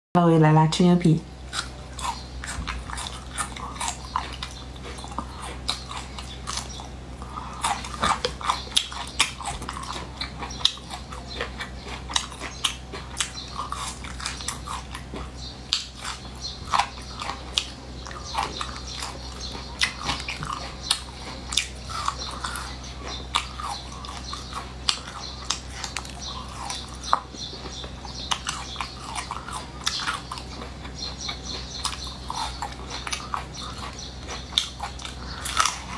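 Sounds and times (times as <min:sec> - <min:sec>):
steady low hum: 0:00.2 - 0:35.9
person chewing food: 0:01.4 - 0:35.9.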